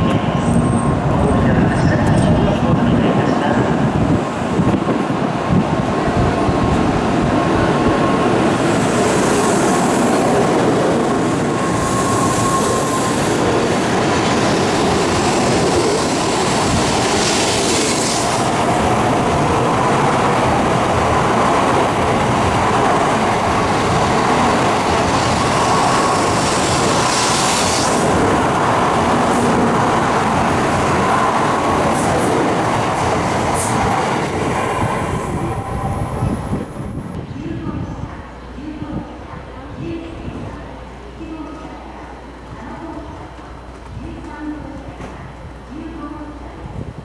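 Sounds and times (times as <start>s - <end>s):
train rail rumble: 0.0s - 47.0s.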